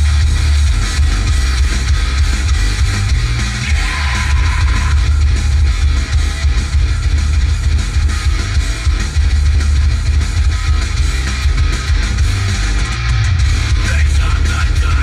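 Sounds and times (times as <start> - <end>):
heavy subwoofer bass: 0.0 - 15.0
rock music through car stereo: 0.0 - 15.0.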